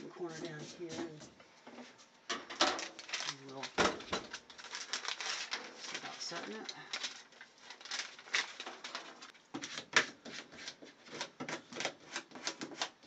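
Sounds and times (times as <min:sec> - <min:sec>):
foil crinkling clicks and taps: 0:02.3 - 0:13.0.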